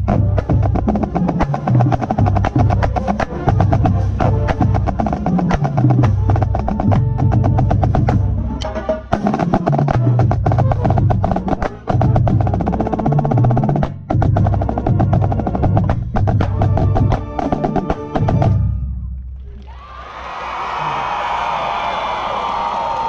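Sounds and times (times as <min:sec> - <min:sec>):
marching band playing: 0:00.0 - 0:19.0.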